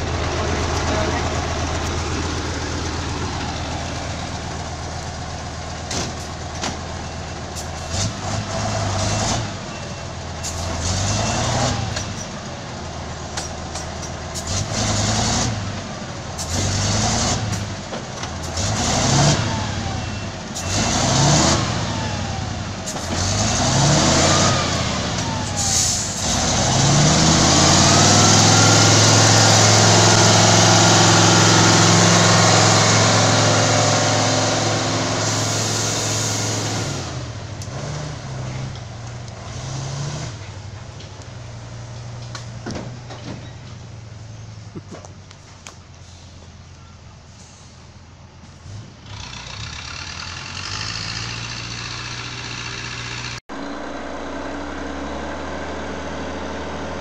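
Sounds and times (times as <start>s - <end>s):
heavy vehicle engine revving: 0.0s - 45.1s, 48.4s - 57.0s
engine knocks and clatters: 0.0s - 57.0s.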